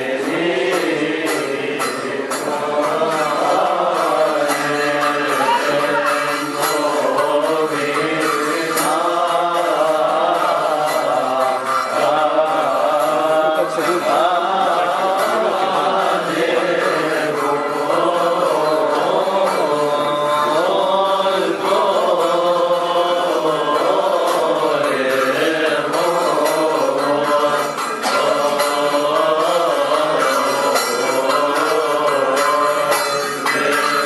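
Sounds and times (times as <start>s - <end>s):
church hymn being chanted: 0.0s - 34.0s.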